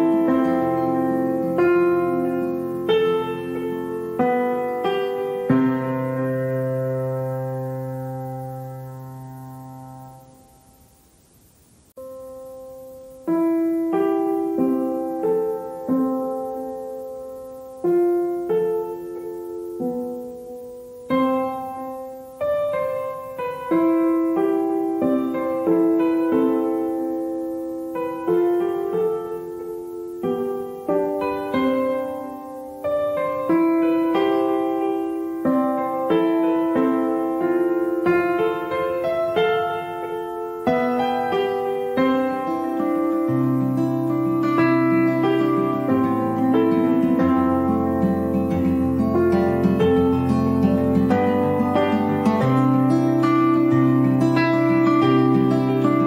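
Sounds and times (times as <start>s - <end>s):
slow piano music: 0.0s - 11.0s, 11.9s - 56.0s.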